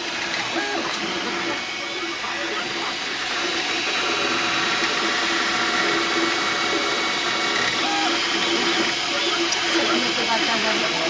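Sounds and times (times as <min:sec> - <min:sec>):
printer stepper motors whining: 0:00.0 - 0:11.0.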